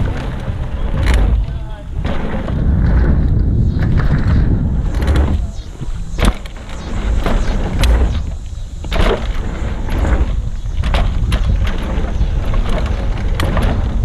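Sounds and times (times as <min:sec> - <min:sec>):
bike knocking over bumps: 0:00.0 - 0:14.0
bike rolling rumble: 0:00.0 - 0:14.0.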